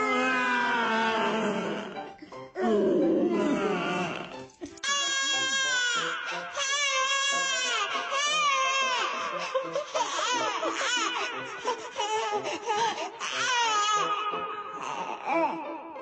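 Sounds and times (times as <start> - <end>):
infant crying loudly: 0.0 - 15.9.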